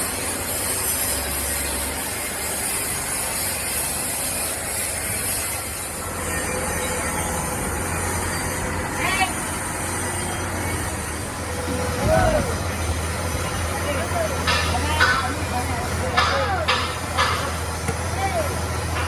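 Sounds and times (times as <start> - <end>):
steady machinery noise: 0.0 - 19.0.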